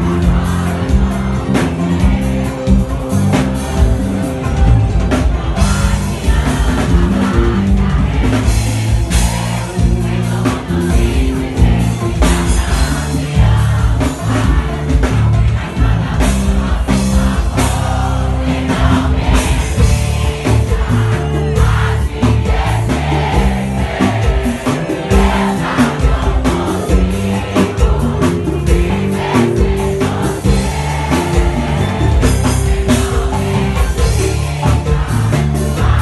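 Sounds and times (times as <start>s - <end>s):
bass guitar: 0.0s - 36.0s
steady drum beat: 0.0s - 36.0s.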